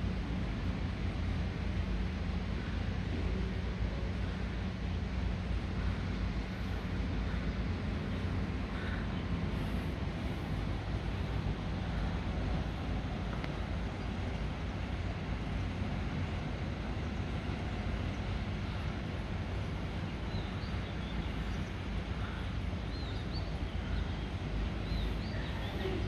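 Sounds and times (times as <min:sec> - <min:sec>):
low town ambience rumble: 0:00.0 - 0:26.0.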